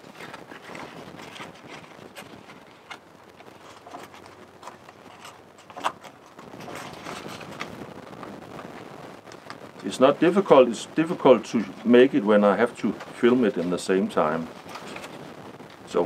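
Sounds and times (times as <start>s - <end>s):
bark rustling and crackling: 0.0s - 10.4s, 12.9s - 16.0s.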